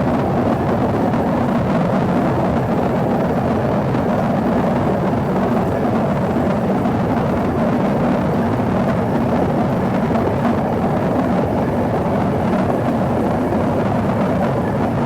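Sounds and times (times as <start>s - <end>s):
airflow rush in jet cabin: 0.0s - 15.0s
jet engines humming: 0.0s - 15.0s.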